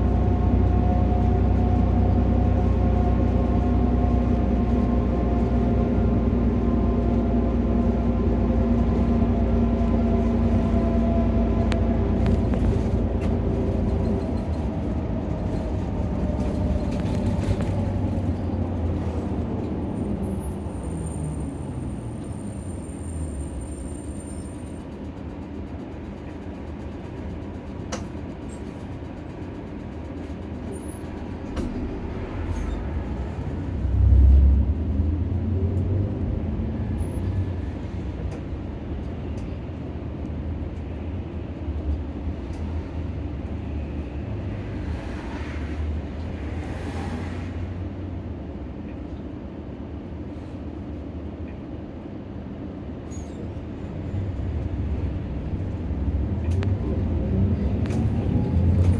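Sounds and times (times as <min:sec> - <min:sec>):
bus engine and road rumble: 0:00.0 - 0:58.9.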